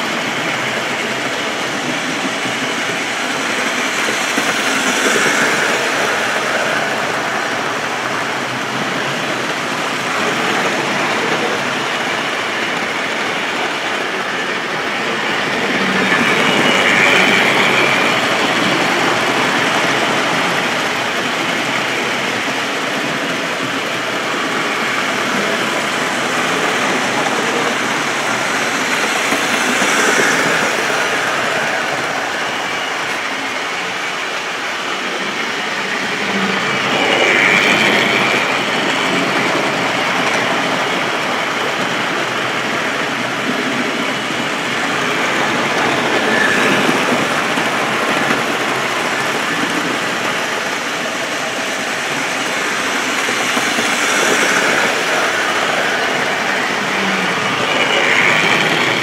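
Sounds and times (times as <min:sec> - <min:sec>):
model trains rumbling on track: 0:00.0 - 0:59.0.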